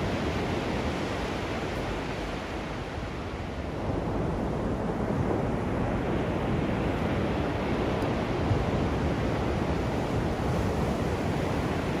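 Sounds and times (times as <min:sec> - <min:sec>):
ocean surf breaking on beach: 0:00.0 - 0:12.0
wind on microphone: 0:00.0 - 0:12.0.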